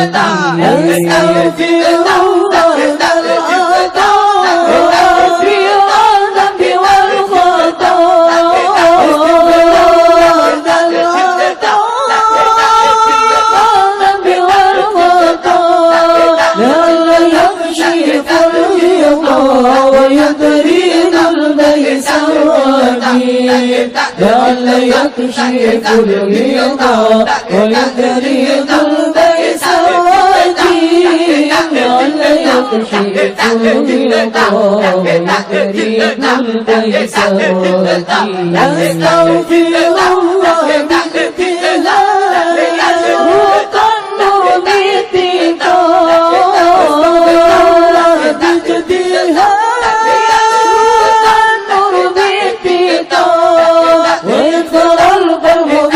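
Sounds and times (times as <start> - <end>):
congregation chanting in unison: 0.0 - 55.9.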